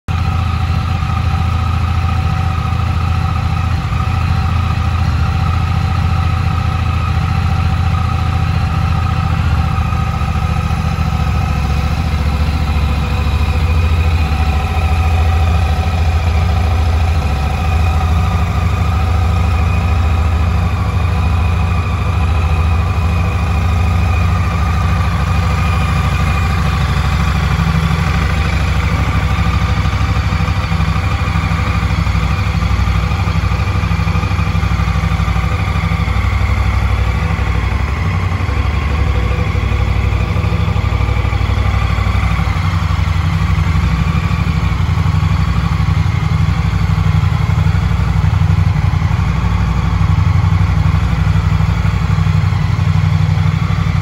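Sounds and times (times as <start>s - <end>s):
motorcycle engine idling: 0.1s - 54.0s.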